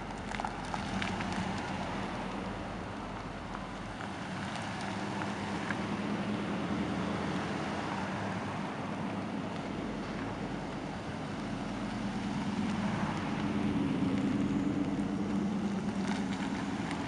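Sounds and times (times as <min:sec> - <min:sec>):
truck engines driving past: 0:00.0 - 0:17.0.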